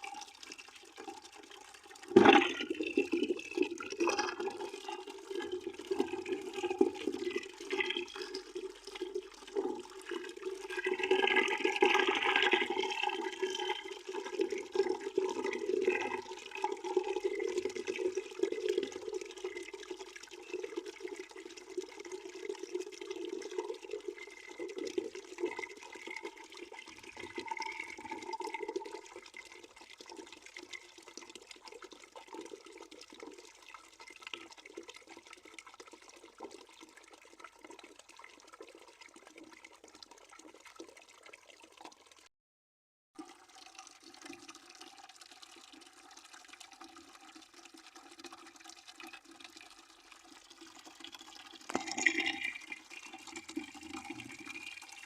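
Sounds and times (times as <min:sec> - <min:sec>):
water running into a bucket: 0:00.0 - 0:42.3, 0:43.2 - 0:55.0.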